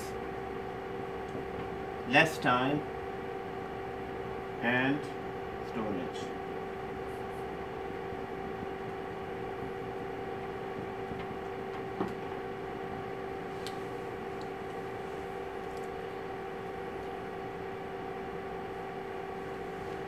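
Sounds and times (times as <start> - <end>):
ventilation hum with tones: 0.0 - 20.0.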